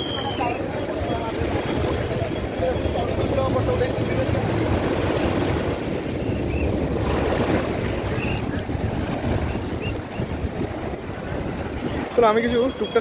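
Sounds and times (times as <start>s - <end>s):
sea surf washing up beach: 0.0s - 13.0s
wind buffeting microphone: 0.0s - 13.0s.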